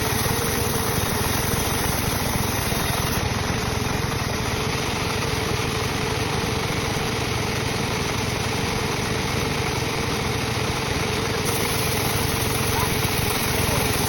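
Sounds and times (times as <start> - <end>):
sawmill machinery drone: 0.0 - 14.0.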